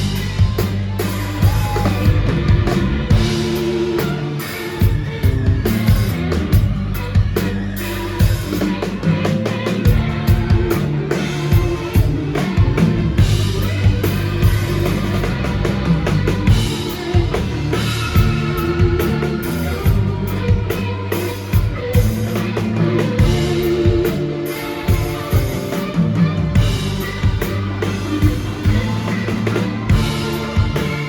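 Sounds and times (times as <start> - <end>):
bass line: 0.0 - 31.0
drum kit: 0.0 - 31.0
guitar tones: 0.0 - 31.0.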